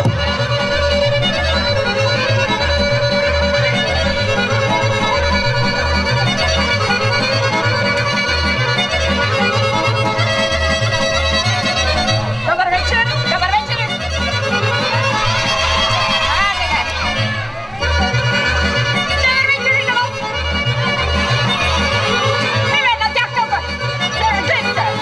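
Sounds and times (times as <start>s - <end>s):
instrumental music with bass beat: 0.0s - 23.0s.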